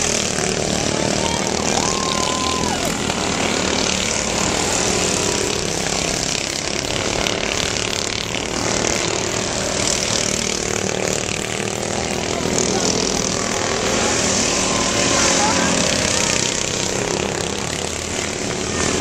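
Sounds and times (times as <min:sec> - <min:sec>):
lawn mower engines racing: 0:00.0 - 0:19.0.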